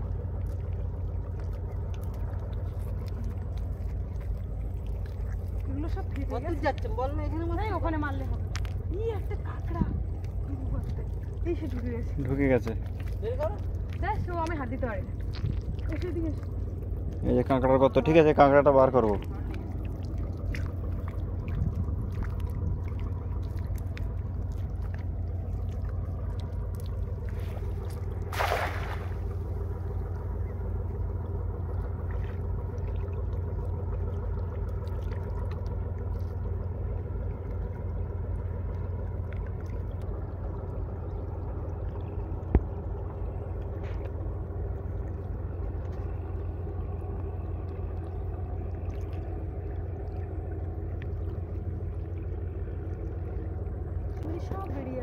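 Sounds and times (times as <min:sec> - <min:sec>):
distant boat engine drone: 0:00.0 - 0:55.0.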